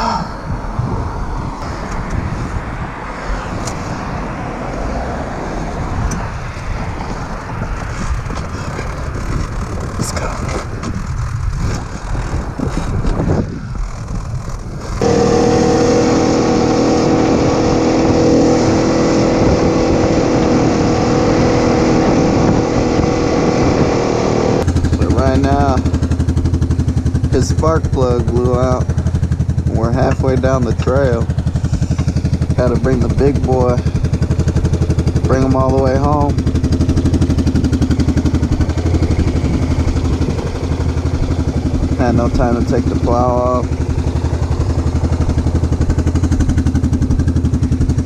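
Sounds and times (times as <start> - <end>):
rough vehicle noise: 0.0 - 48.0
steady engine drone: 0.0 - 48.0
wind noise: 0.0 - 48.0.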